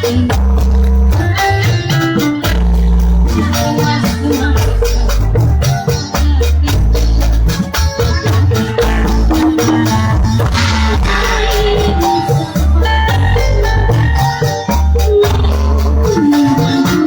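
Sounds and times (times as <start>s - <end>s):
hand drums and percussion: 0.0s - 17.0s
heavy bass notes: 0.0s - 17.0s.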